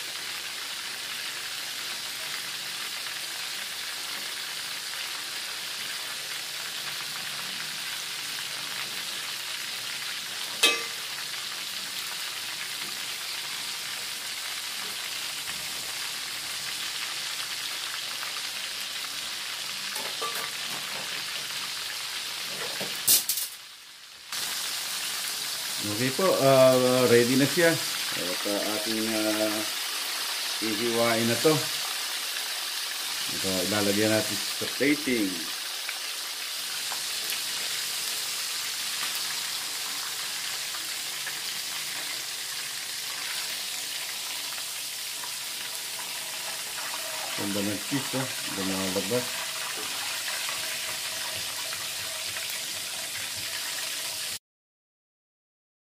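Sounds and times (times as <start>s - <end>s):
food deep-frying in oil: 0.0s - 54.4s.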